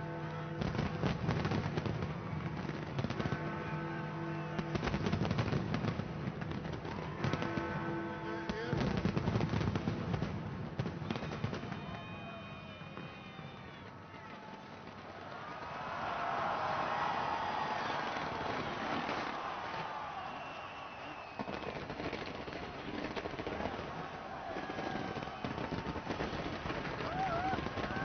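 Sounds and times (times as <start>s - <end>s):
fireworks crackling and banging: 0.2s - 28.0s.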